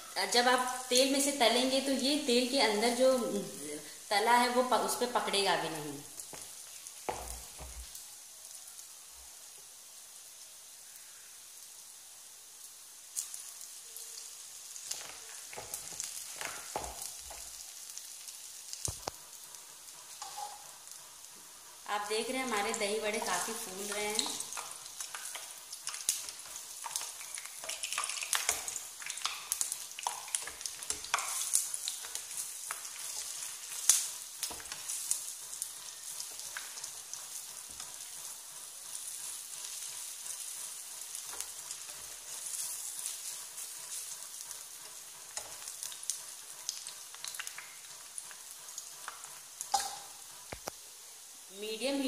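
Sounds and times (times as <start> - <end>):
deep-frying sizzle with pops: 0.0 - 52.0.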